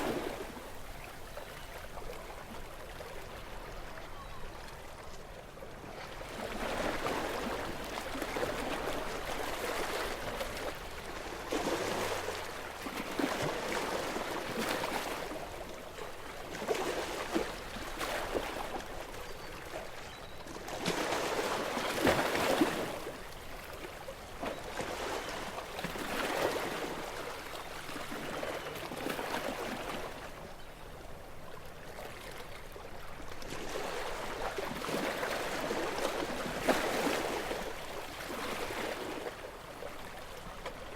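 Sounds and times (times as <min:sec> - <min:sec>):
sea waves lapping on shore: 0:00.0 - 0:40.9.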